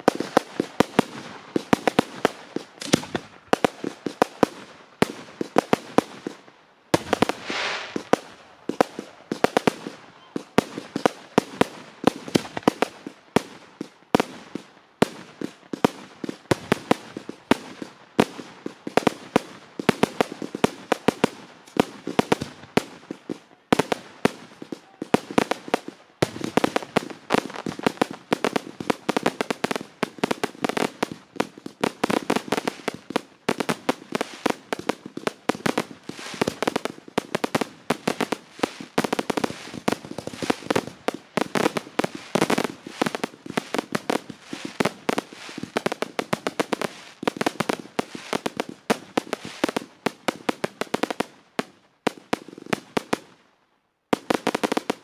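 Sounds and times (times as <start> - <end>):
fireworks crackling and popping: 0.0 - 53.4, 54.1 - 55.0.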